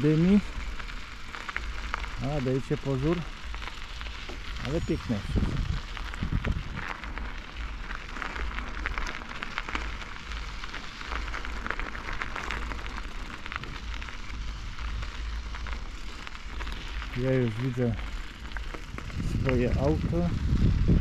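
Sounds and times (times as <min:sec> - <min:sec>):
bicycle tyres rolling on path: 0:00.0 - 0:21.0
wind rumble on microphone: 0:00.0 - 0:21.0.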